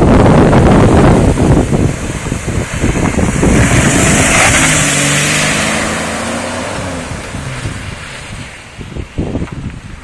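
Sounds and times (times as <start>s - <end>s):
engine under throttle: 0.3s - 8.4s.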